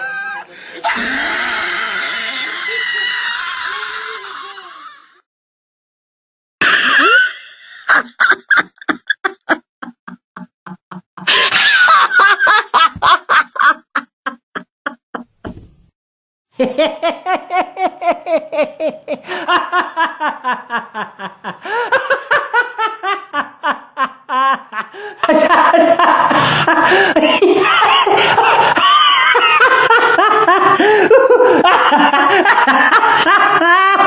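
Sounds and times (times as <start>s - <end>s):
man laughing: 0.0s - 1.8s, 6.6s - 15.6s, 16.6s - 34.0s.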